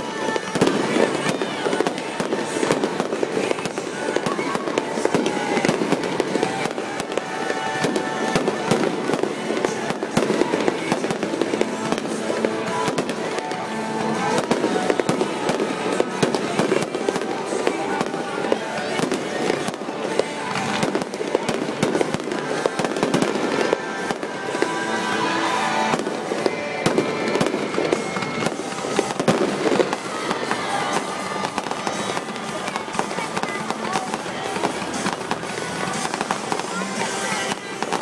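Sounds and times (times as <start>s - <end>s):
fireworks bangs and crackles: 0.0s - 38.0s
music playing: 0.0s - 38.0s.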